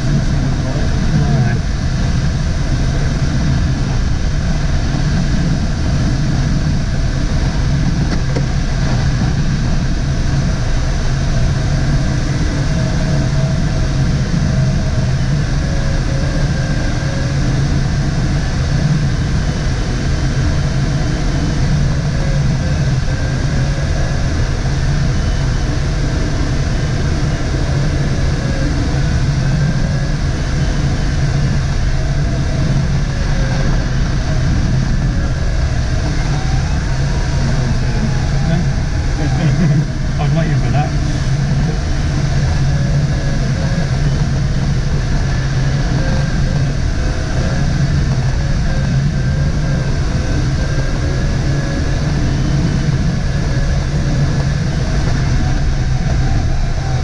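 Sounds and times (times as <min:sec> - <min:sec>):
air rushing around glider canopy: 0:00.0 - 0:57.0
faint wavering whine: 0:00.0 - 0:57.0
tow plane engine drone: 0:00.0 - 0:57.0.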